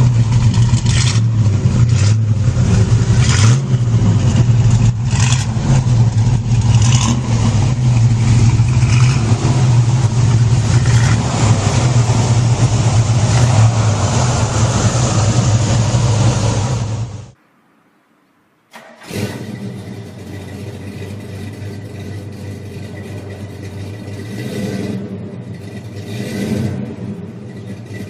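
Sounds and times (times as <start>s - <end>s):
car engine running loudly: 0.0s - 17.4s, 19.0s - 28.0s.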